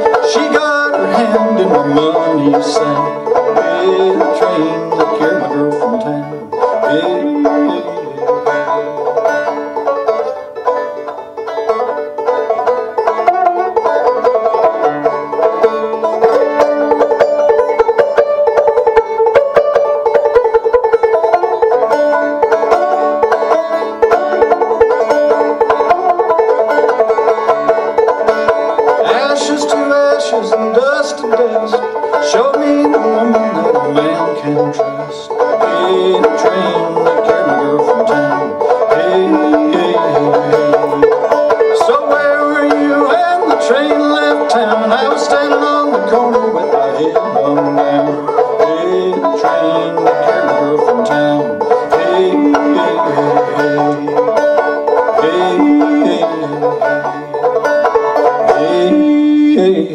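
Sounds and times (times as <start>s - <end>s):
banjo picking: 0.0s - 59.9s.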